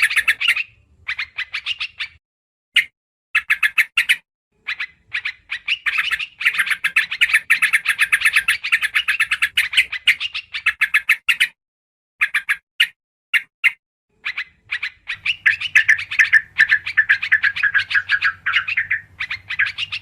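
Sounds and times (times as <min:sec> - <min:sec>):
bird chattering calls: 0:00.0 - 0:02.2, 0:02.8 - 0:11.6, 0:12.2 - 0:20.0.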